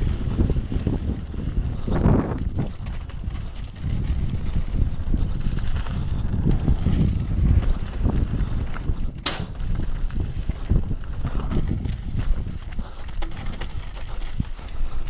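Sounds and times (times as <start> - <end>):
tyres rumbling over dirt: 0.0 - 15.0
wind buffeting microphone: 0.0 - 15.0
bike knocks and rattles: 0.2 - 15.0.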